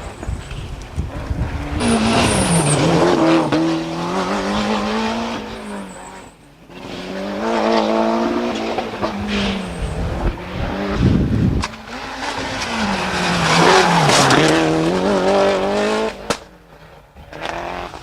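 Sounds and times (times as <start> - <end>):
rally cars revving past: 1.1 - 18.0.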